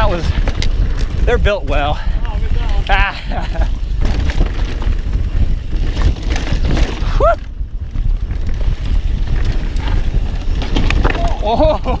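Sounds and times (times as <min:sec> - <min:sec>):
mountain bike rolling on trail: 0:00.0 - 0:12.0
wind buffeting microphone: 0:00.0 - 0:12.0.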